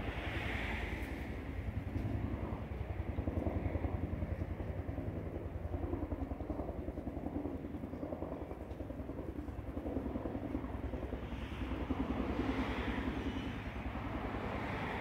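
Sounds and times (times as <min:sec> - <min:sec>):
distant helicopter rotor beat: 0:00.0 - 0:15.0.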